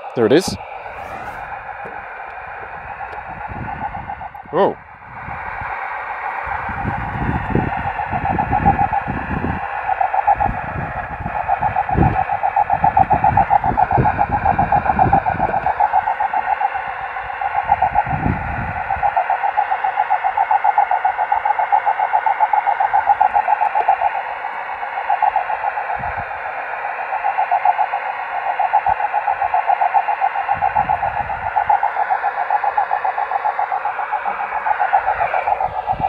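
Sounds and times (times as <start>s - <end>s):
fluttering radio carrier tone: 0.0s - 36.0s.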